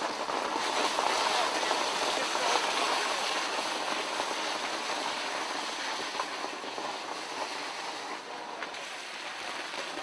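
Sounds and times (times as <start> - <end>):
hail clattering on road and cars: 0.0 - 10.0.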